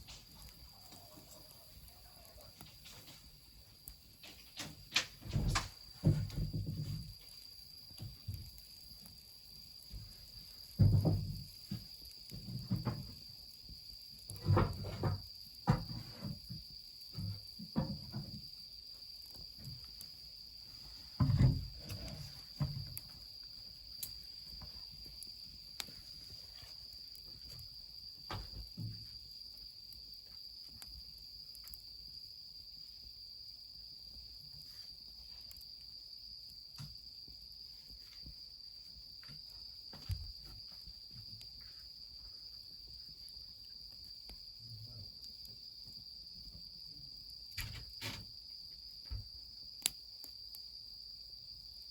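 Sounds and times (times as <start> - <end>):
wood fire crackling: 0.0 - 46.6, 47.2 - 50.8
insects chirring: 0.0 - 51.9.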